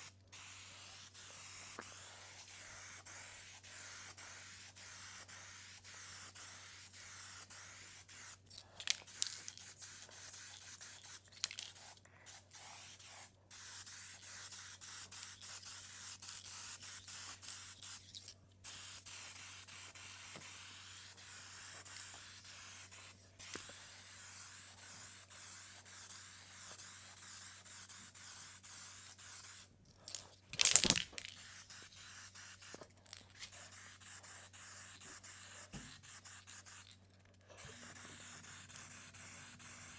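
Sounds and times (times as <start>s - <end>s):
aerosol spray hissing: 0.0s - 29.7s, 30.7s - 32.8s, 33.4s - 36.9s.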